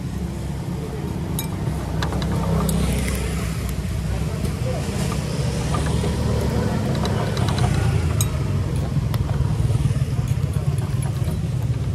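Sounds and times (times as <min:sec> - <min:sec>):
street traffic rumble: 0:00.0 - 0:11.9.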